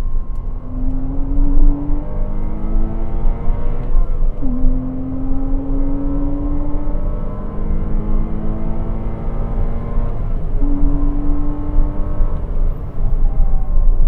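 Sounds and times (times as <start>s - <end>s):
sports car engine pulling hard: 0.0s - 14.0s.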